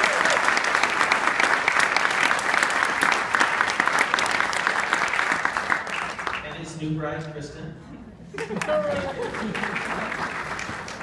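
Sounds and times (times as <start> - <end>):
audience applause: 0.0 - 6.5, 8.4 - 11.0.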